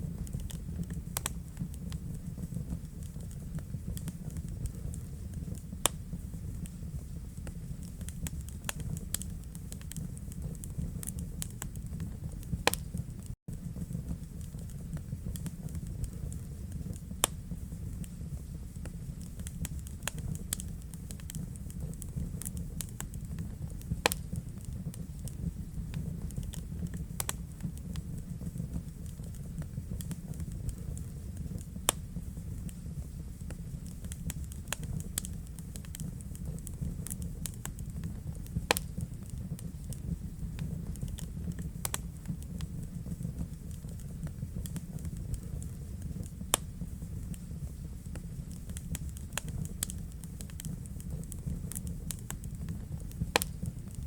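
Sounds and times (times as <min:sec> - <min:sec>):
low rumble of fire: 0:00.0 - 0:54.0
wood fire crackling and popping: 0:00.0 - 0:54.0.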